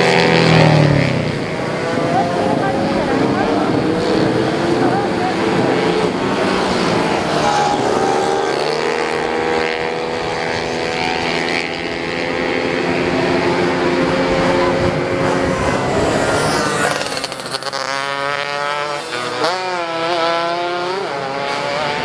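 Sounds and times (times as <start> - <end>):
scooter engines passing: 0.0 - 22.0.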